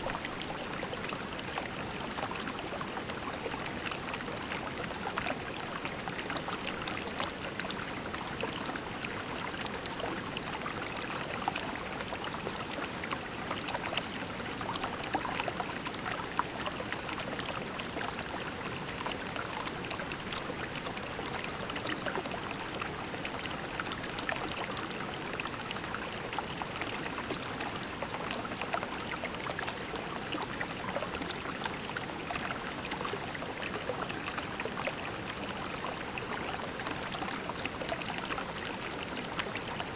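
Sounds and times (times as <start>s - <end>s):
creek water trickling over pebbles: 0.0s - 39.9s.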